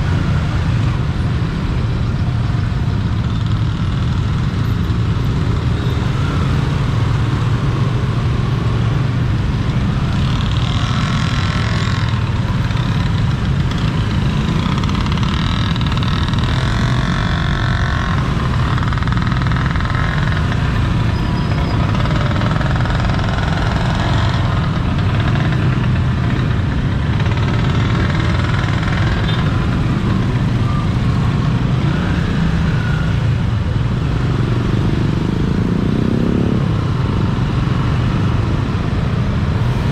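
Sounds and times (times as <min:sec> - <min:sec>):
engine and road rumble: 0:00.0 - 0:39.9
passing vehicles: 0:00.0 - 0:39.9.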